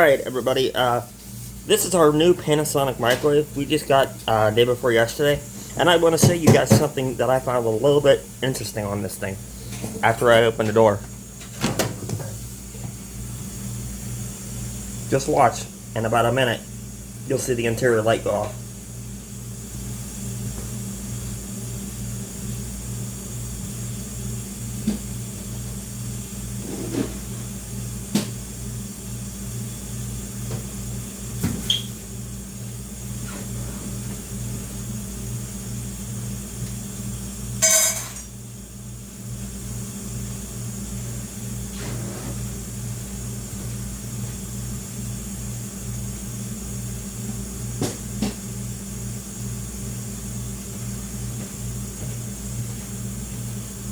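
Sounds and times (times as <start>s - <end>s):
low electrical hum: 0.0s - 53.9s.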